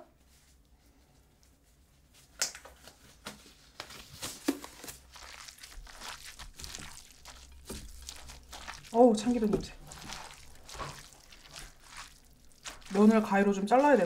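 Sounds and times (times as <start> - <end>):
vinyl gloves crinkling: 1.6 - 14.0.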